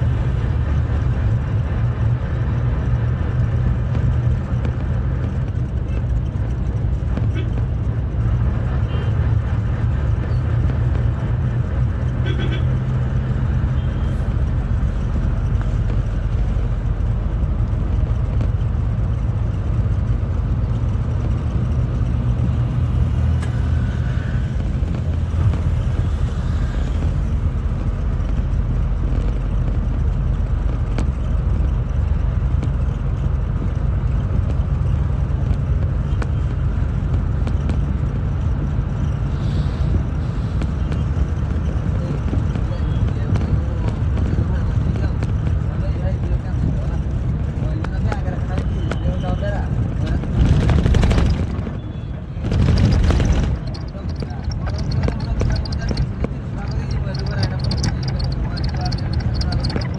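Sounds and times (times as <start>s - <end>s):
low rumble of road traffic: 0.0s - 59.9s.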